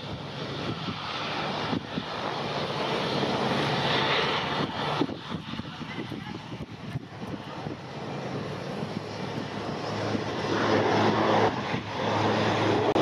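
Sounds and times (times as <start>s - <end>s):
low propeller hum: 0.0s - 13.0s
turboprop plane climbing: 0.0s - 13.0s.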